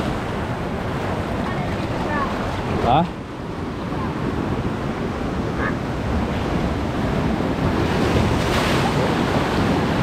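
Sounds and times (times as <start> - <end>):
sea surf washing over boulders: 0.0 - 10.0.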